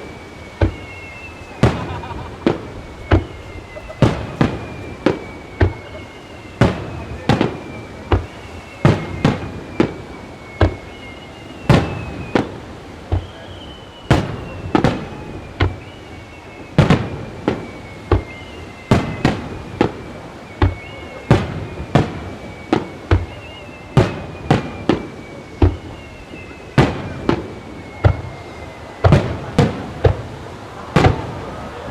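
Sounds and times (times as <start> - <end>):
firework shells bursting: 0.0 - 31.4
high whistle gliding down: 0.0 - 31.9.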